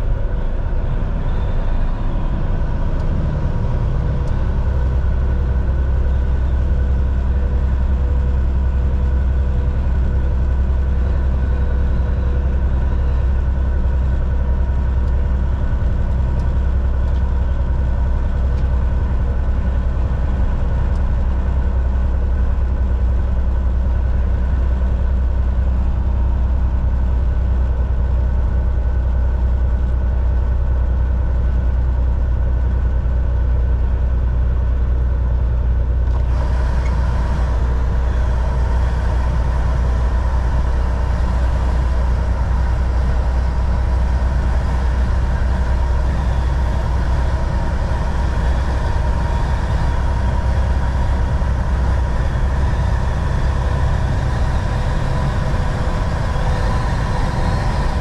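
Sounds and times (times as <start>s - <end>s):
faint whine: 0.0s - 58.0s
truck engine and road rumble: 0.0s - 58.0s.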